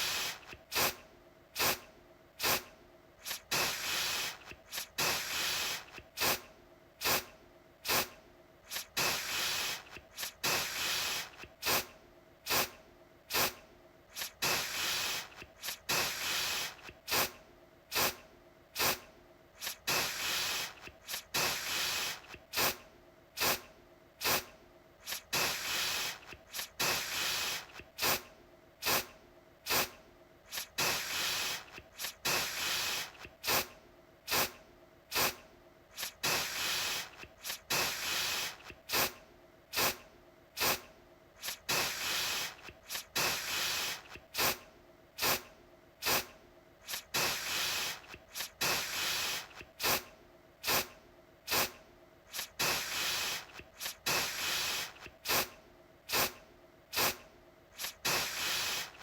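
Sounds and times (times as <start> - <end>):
aerosol can spraying: 0.0 - 1.0, 1.6 - 1.8, 2.4 - 11.9, 12.5 - 18.2, 18.8 - 19.0, 19.6 - 22.8, 23.4 - 29.1, 29.7 - 33.7, 34.3 - 40.0, 40.6 - 44.6, 45.2 - 50.9, 51.5 - 57.2, 57.8 - 59.0.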